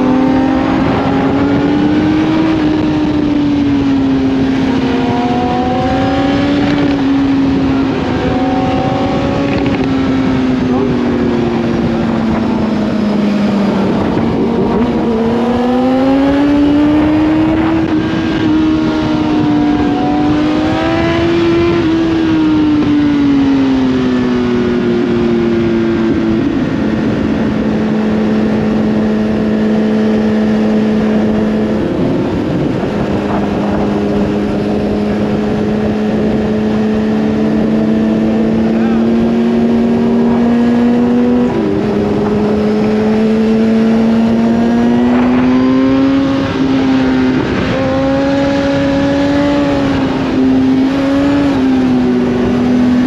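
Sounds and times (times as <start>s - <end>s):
motorcycle engine at high revs: 0.0s - 53.0s
wind rushing over microphone: 0.0s - 53.0s.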